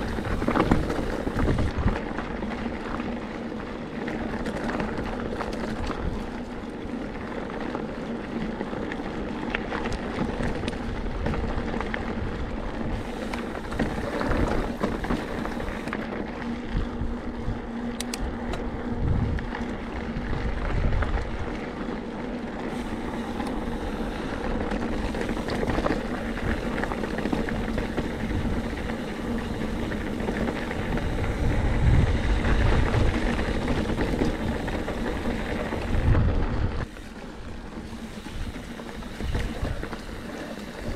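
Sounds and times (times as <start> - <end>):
bike tyres rattling over rock: 0.0 - 40.9
wind rumbling on microphone: 0.0 - 40.9.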